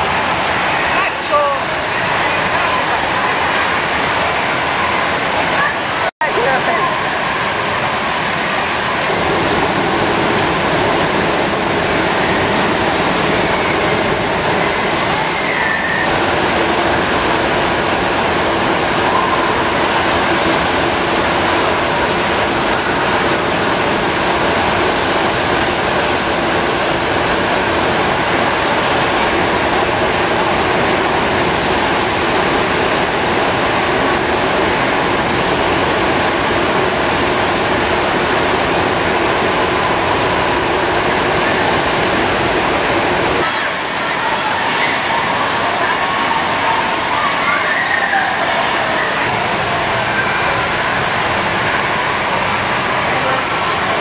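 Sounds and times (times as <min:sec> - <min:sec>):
rush of water over a ramp: 0:00.0 - 0:54.0.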